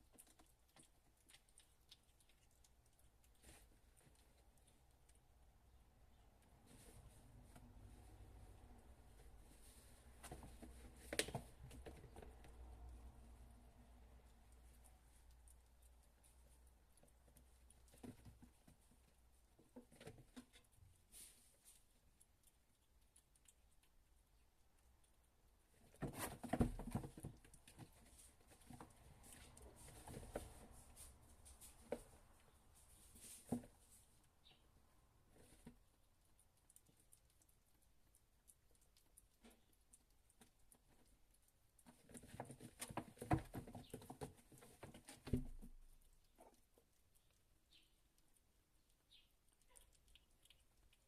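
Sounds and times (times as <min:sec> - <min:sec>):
kittens scuffling and pattering: 0:00.0 - 0:34.6, 0:35.2 - 0:47.8.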